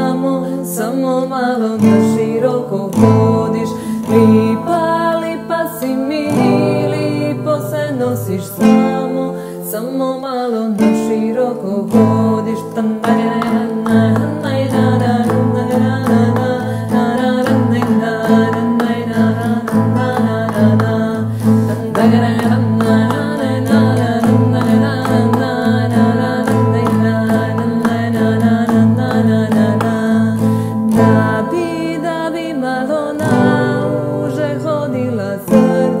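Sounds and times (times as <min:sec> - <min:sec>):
strummed acoustic guitar: 0:00.0 - 0:36.0
woman singing sustained harmonies: 0:00.0 - 0:36.0.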